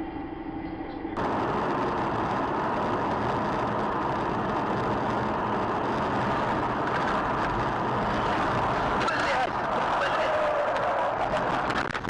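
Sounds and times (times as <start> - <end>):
car road and engine noise: 1.2 - 12.0.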